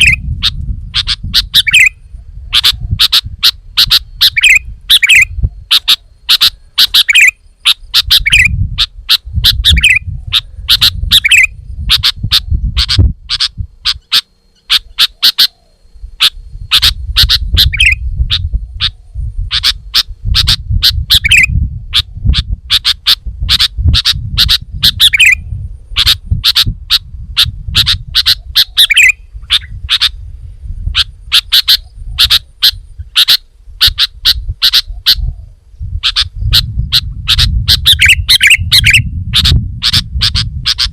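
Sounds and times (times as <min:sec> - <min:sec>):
bird chattering chirps: 0:00.0 - 0:30.2, 0:30.8 - 0:35.4, 0:36.0 - 0:40.9.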